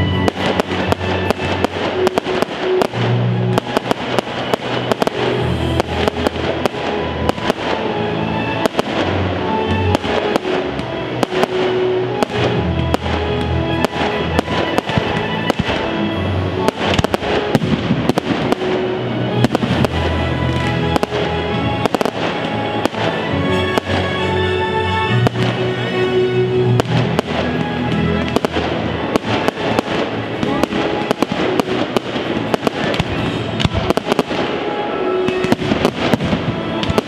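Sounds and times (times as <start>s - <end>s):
fireworks bangs and crackles: 0.0s - 37.0s
music: 0.0s - 37.0s.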